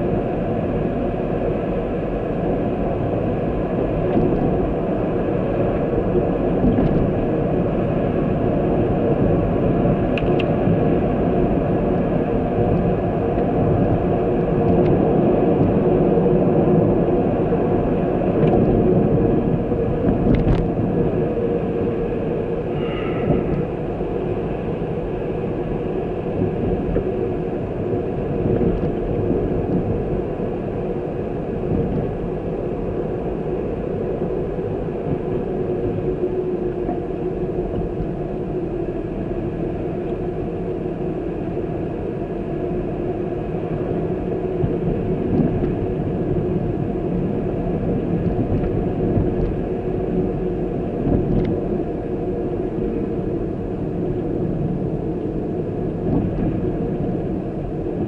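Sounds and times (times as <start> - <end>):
vehicle engine and road rumble: 0.0 - 58.0.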